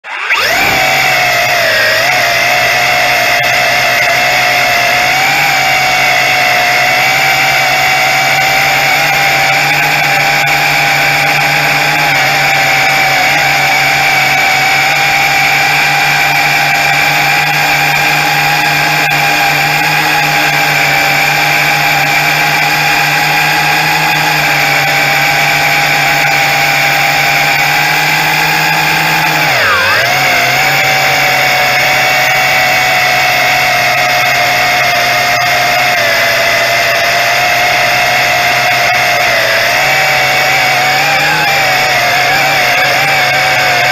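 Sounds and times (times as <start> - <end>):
drone propellers whining: 0.0 - 43.9.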